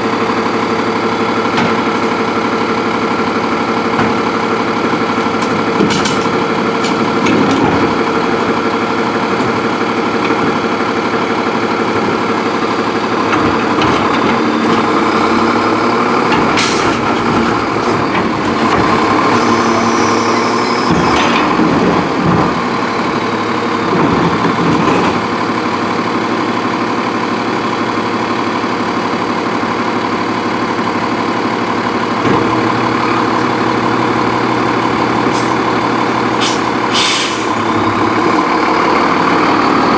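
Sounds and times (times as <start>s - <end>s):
garbage truck engine running: 0.0s - 39.9s.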